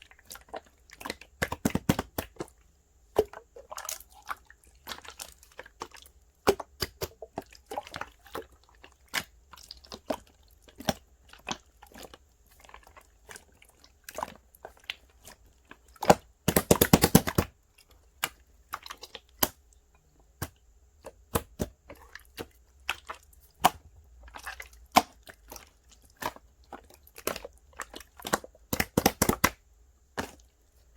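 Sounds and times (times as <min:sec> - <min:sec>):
slime squished by hand: 0:00.2 - 0:19.6, 0:20.4 - 0:30.5.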